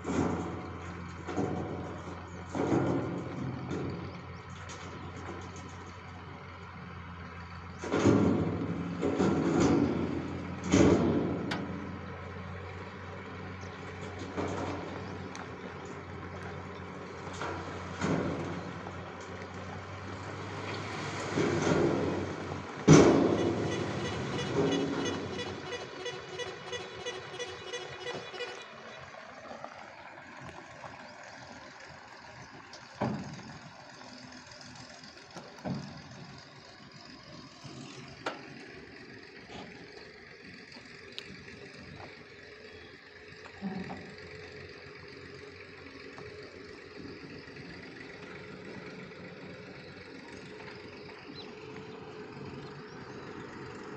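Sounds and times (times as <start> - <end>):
distant diesel engines humming: 0.0 - 53.9.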